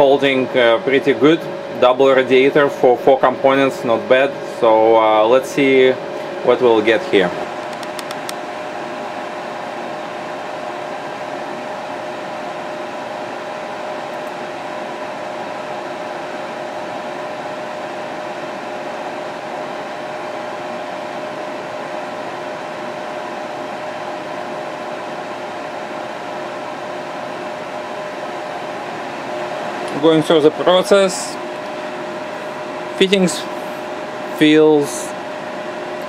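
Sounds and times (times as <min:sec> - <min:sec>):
computer fans whirring: 0:00.0 - 0:36.0
steady humming tone: 0:00.0 - 0:36.0.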